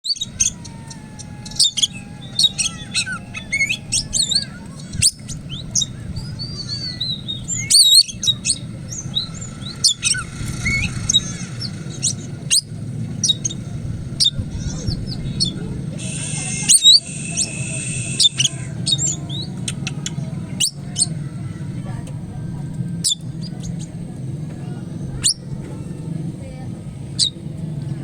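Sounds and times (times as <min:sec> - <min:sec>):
bird singing whistled notes and trills: 0:00.0 - 0:28.0
low steady background hum: 0:00.1 - 0:28.0.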